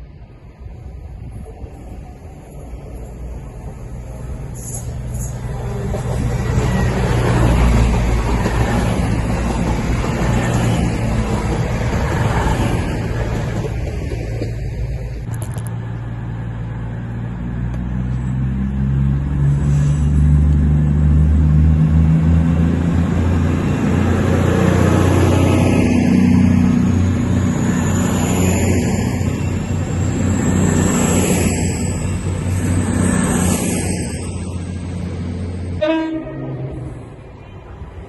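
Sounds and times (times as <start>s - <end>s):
train engine droning: 0.0s - 38.0s.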